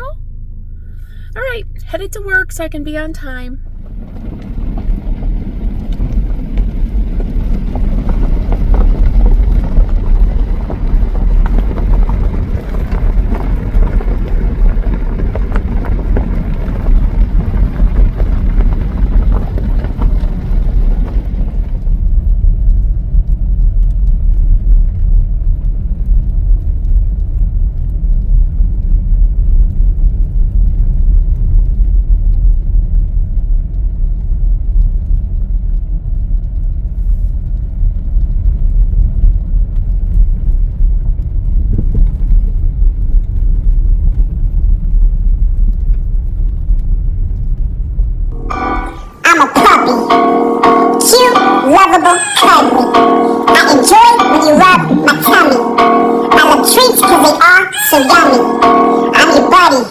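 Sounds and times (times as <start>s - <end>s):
car road and engine rumble: 0.0s - 48.7s.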